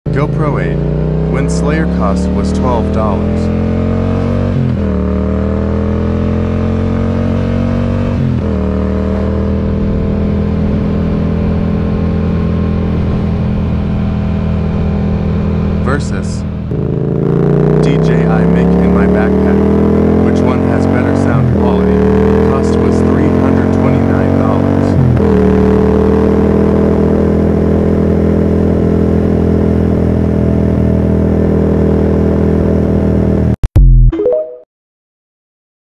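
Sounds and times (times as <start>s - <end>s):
motorcycle engine accelerating: 0.1s - 33.8s.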